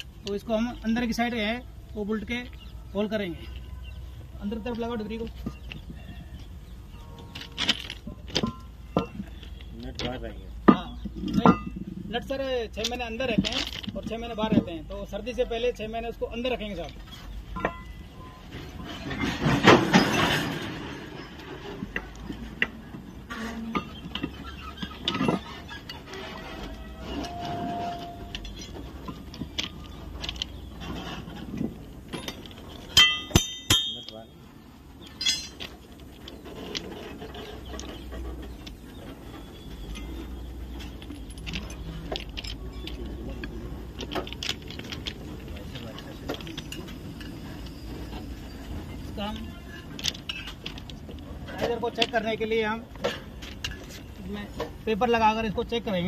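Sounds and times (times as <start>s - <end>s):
hand tools clinking on metal: 6.9s - 15.7s, 16.3s - 34.4s, 35.0s - 56.0s.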